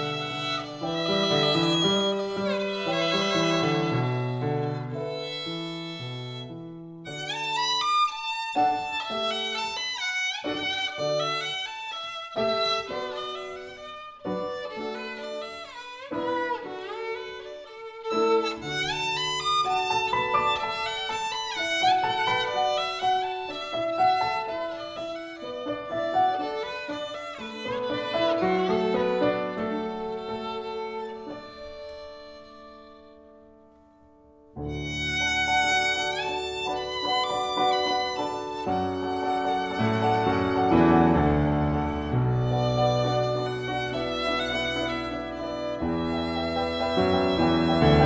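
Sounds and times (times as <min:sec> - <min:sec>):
piano accompaniment: 0:00.0 - 0:48.0
violin melody: 0:00.0 - 0:48.0.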